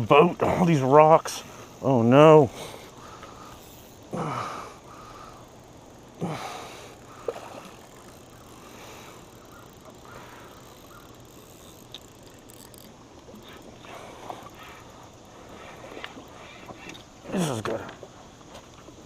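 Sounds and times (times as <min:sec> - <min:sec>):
open water ambience: 0:00.0 - 0:19.0
faint ticks: 0:02.6 - 0:04.2, 0:04.8 - 0:19.0.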